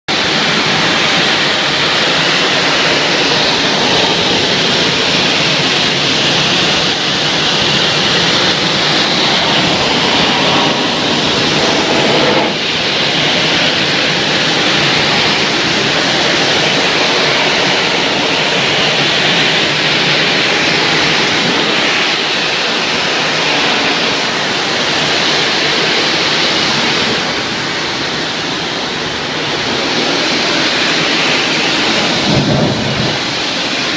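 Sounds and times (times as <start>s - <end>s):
pressure washer water spray: 0.1s - 33.9s.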